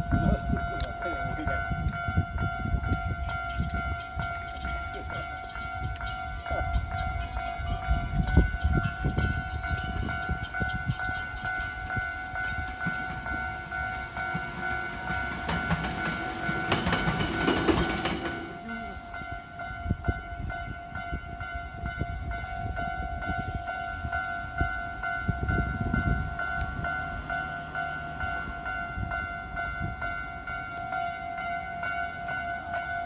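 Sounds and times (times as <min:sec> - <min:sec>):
level crossing alarm ringing: 0:00.0 - 0:33.0
train wheels rumbling and clattering: 0:00.0 - 0:33.0.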